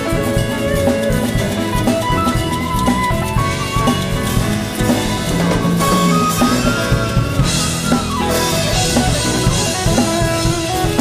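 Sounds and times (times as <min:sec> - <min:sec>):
drum kit: 0:00.0 - 0:11.0
keyboard: 0:00.0 - 0:11.0
lead melody with bending notes: 0:00.0 - 0:11.0.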